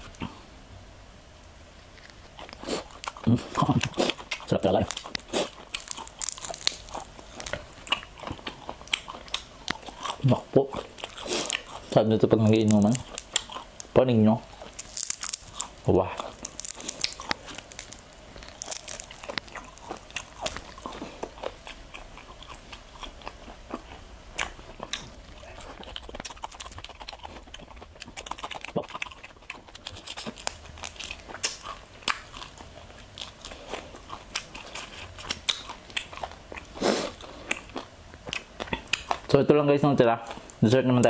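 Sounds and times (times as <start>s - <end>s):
crunchy food chewing: 1.8s - 39.4s.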